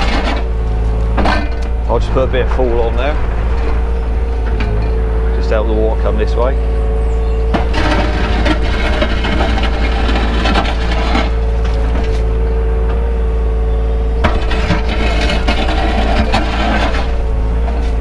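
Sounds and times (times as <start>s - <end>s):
bucket scraping mud and grit: 0.0s - 12.7s, 14.2s - 18.0s
excavator engine running: 0.0s - 18.0s.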